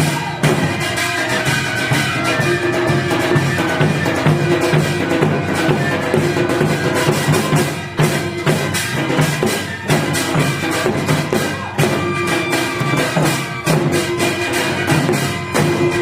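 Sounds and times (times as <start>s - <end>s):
drum and percussion strokes: 0.0s - 16.0s
held melodic lines from ensemble: 0.0s - 16.0s.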